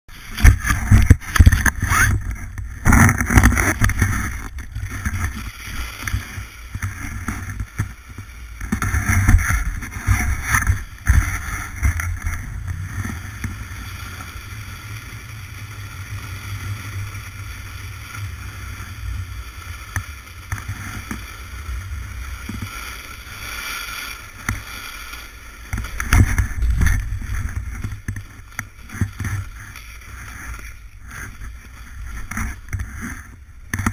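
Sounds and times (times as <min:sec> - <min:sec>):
snowboard scraping over snow: 0:00.1 - 0:33.9
wind rumbling on microphone: 0:00.1 - 0:33.9.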